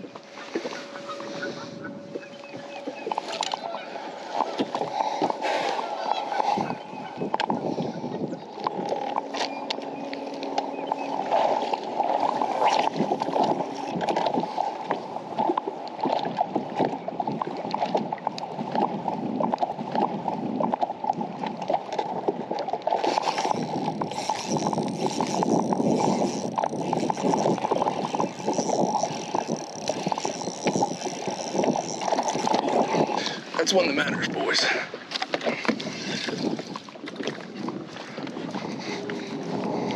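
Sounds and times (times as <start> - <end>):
water lapping against boat hull: 0.0 - 39.9
wind on microphone: 0.0 - 39.9.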